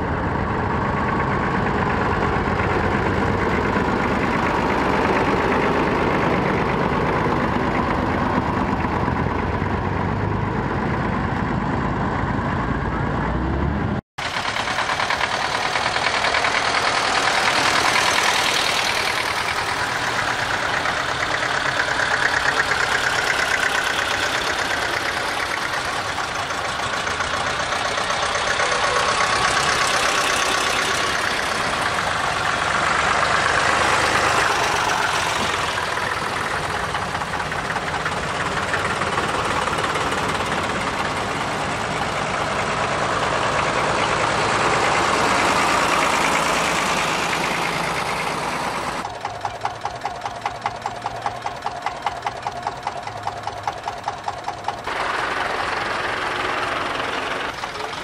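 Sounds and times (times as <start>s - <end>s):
tractor diesel engines passing: 0.0s - 58.0s.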